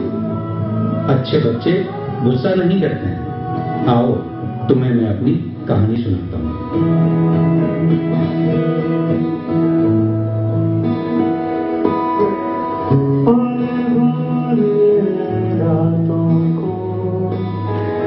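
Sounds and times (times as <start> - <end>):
instrumental chords over bass: 0.0 - 18.0.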